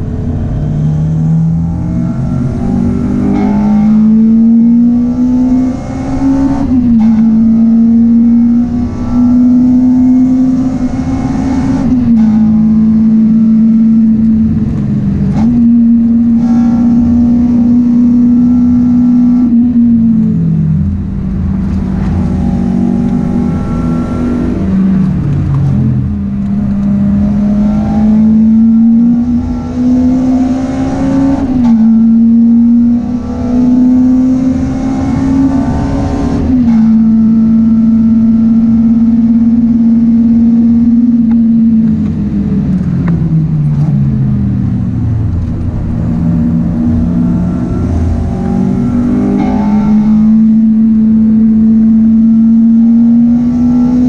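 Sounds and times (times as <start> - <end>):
car engine revving with gear changes: 0.0 - 54.0.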